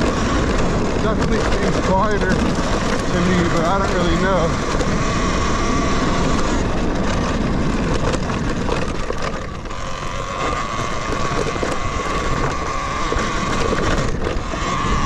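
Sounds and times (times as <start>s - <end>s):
electric motor whining: 0.0s - 15.0s
knocks from rough trail: 0.0s - 15.0s
wind buffeting microphone: 0.0s - 15.0s.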